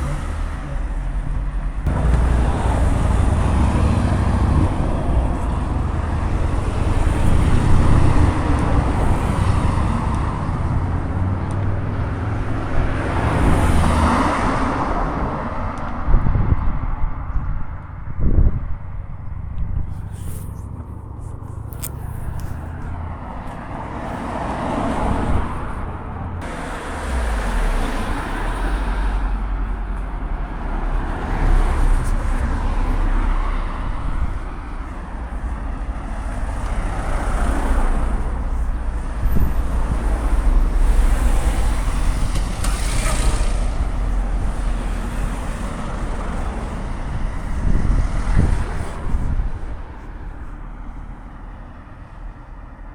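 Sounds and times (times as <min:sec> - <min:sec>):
vehicles passing with low rumble: 0:00.0 - 0:52.9.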